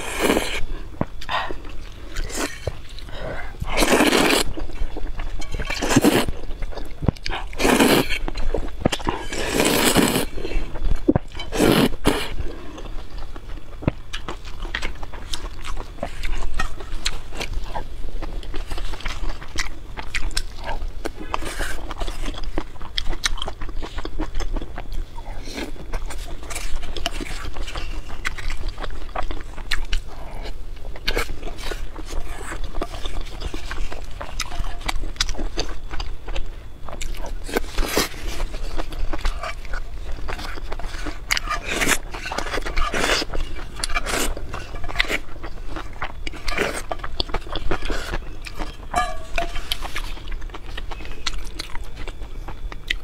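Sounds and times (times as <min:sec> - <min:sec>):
chewing and biting: 0:00.0 - 0:53.0
small crunches: 0:00.0 - 0:53.0.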